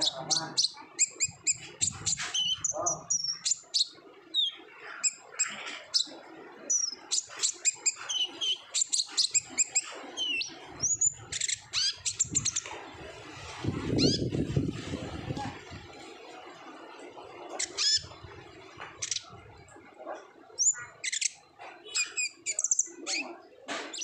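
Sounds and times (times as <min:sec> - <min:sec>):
small bird chirping and twittering: 0:00.0 - 0:15.8, 0:17.4 - 0:19.7, 0:20.4 - 0:24.0.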